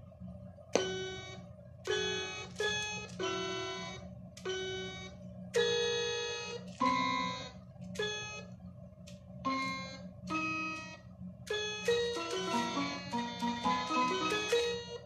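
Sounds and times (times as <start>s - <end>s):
steady low hum: 0.0s - 15.0s
electronic toy piano notes: 0.8s - 8.5s, 9.4s - 15.0s.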